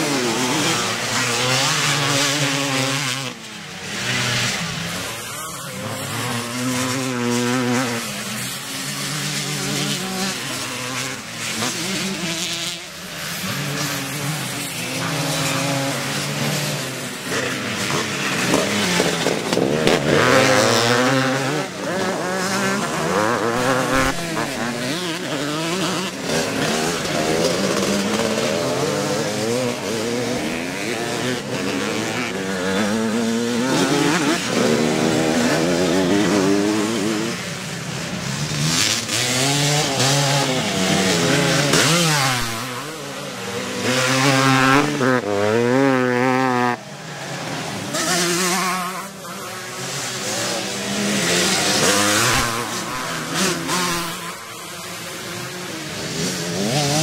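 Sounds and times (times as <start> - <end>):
motocross bikes racing past: 0.0 - 57.0.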